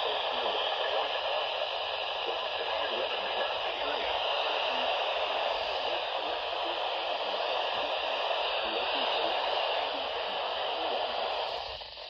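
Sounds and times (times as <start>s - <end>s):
faint radio broadcast voice: 0.0s - 12.0s
radio static hiss: 0.0s - 12.0s.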